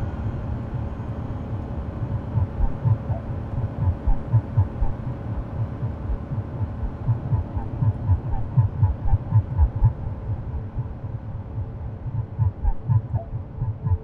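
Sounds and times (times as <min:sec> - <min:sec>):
low throbbing pulses: 0:00.0 - 0:14.0
steady low hum: 0:00.0 - 0:14.0.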